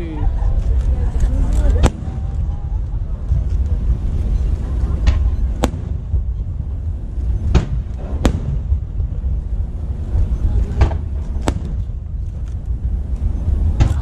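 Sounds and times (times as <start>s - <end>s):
continuous low rumble: 0.0s - 14.0s
fireworks cracking: 0.5s - 14.0s.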